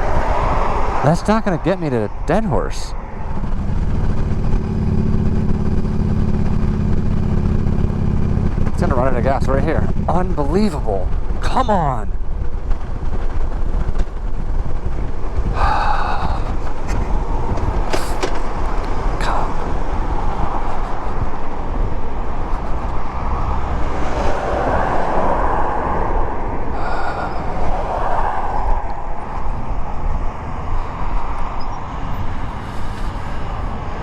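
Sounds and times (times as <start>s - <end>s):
road rumble: 0.0s - 34.0s
wind rush: 0.0s - 34.0s
motorcycle engine: 3.0s - 34.0s.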